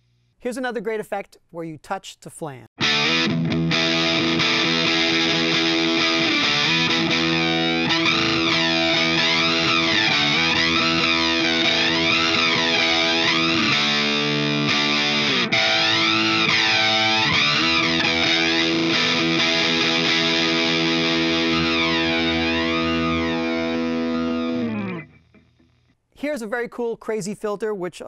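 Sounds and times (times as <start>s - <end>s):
distorted electric guitar chords: 2.8s - 25.8s.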